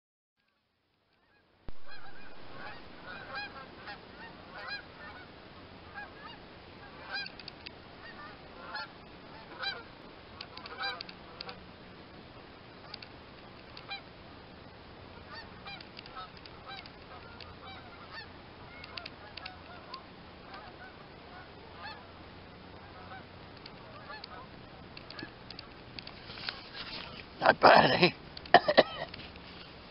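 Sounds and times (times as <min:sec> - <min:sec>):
geese honking: 0:01.2 - 0:11.8, 0:13.8 - 0:14.2, 0:15.0 - 0:29.8.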